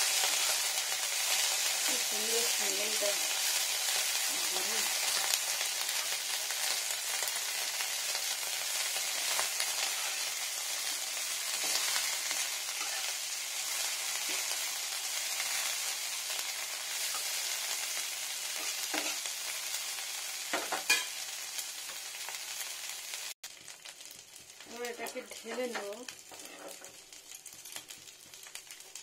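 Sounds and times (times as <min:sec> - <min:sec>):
onion sizzling in oil: 0:00.0 - 0:29.0.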